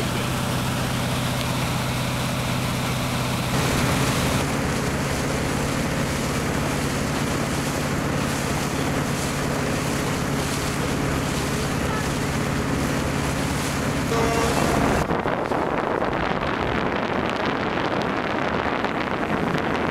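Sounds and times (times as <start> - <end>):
motorboat engine humming: 0.0 - 19.9
rushing water: 0.0 - 19.9
wind noise on microphone: 3.5 - 19.9.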